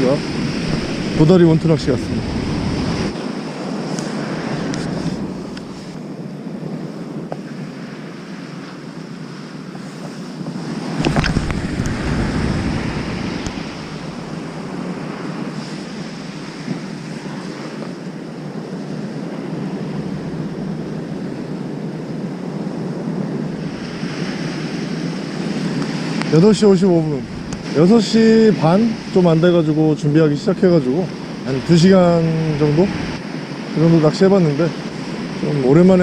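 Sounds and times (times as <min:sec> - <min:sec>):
waves breaking on a beach: 0:00.0 - 0:36.0
wind buffeting microphone: 0:00.0 - 0:36.0.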